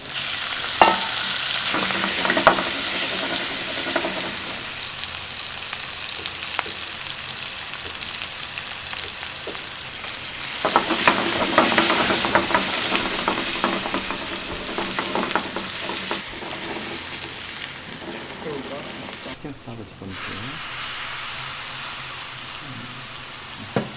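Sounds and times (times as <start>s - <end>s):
food sizzling in frying pan: 0.0s - 19.4s, 20.1s - 23.9s
utensil stirring in pan: 0.0s - 19.4s.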